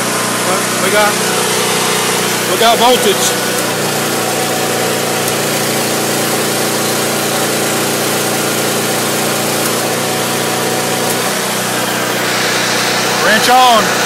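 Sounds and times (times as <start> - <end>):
portable generator running: 0.0 - 14.0.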